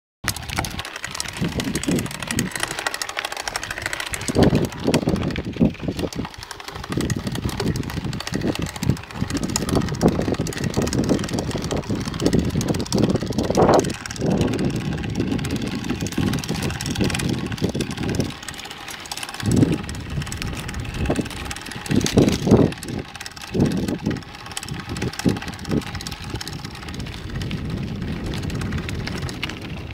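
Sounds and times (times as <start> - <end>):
bike thumps and rattles: 0.3 - 29.9
rush of air or tyres: 0.4 - 29.9.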